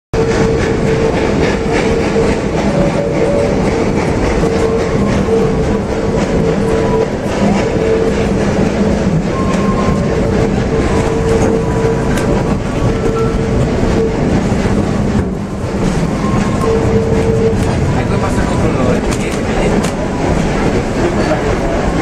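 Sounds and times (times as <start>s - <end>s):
train coaches rumbling and rattling: 0.2s - 22.0s.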